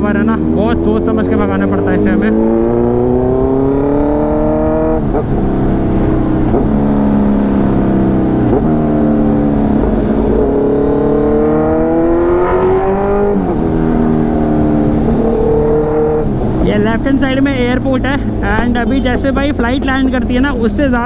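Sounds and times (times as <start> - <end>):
loud motorcycle engine accelerating: 0.0 - 21.0.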